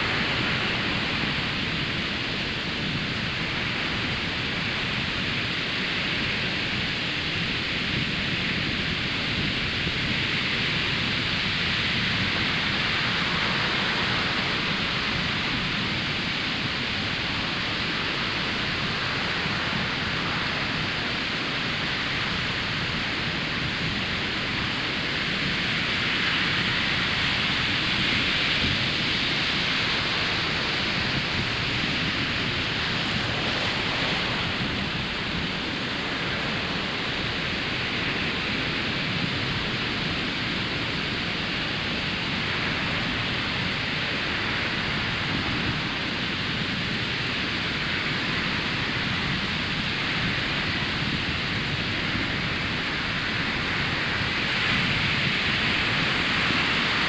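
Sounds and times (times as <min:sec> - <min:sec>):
surf washing on sandy beach: 0:00.0 - 0:57.0.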